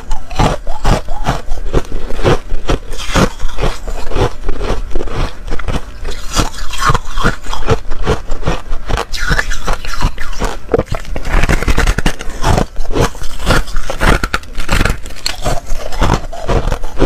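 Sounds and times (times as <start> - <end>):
chewing ice crunches: 0.0 - 17.0.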